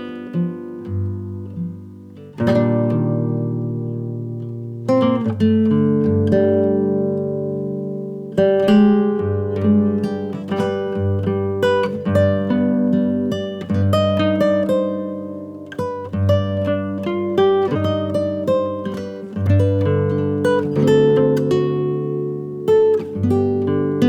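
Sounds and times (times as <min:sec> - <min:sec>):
acoustic guitar plucked notes: 0:00.0 - 0:24.0.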